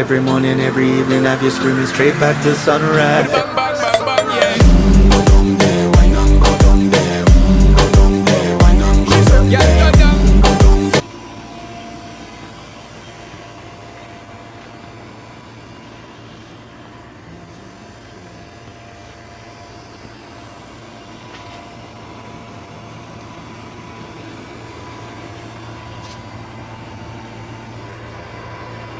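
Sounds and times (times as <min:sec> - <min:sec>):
air conditioner hum: 0:00.0 - 0:28.9.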